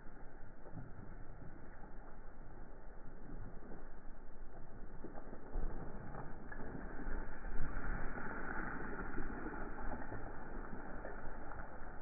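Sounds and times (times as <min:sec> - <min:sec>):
rock and soil sliding rumble: 0:00.0 - 0:12.0.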